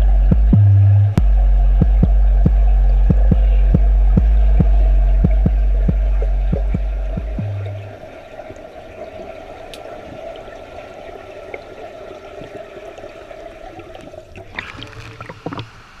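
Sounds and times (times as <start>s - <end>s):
underwater hum with bubbling hiss: 0.0s - 16.0s
water sloshing and dripping: 0.0s - 16.0s.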